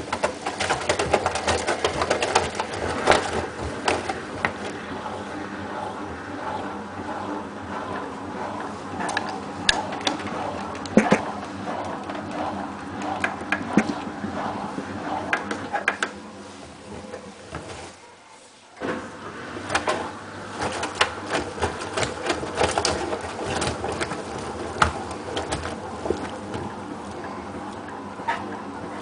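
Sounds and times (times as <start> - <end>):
washing machine drum humming: 0.0 - 29.0.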